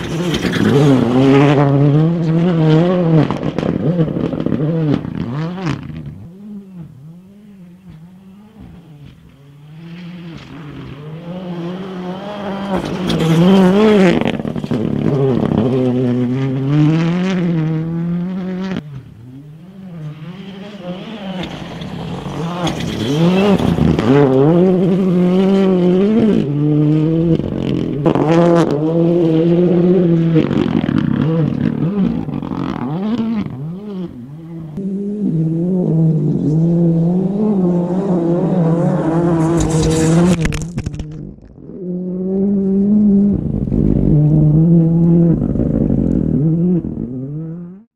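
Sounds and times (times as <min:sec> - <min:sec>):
rally car engine at full throttle: 0:00.0 - 0:47.9.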